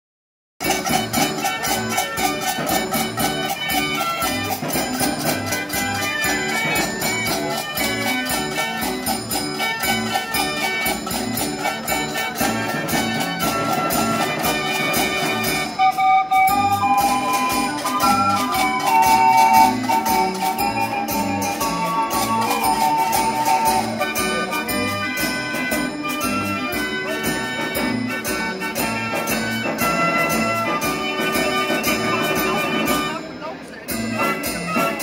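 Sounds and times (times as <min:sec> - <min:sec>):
street organ playing: 0:00.6 - 0:35.0.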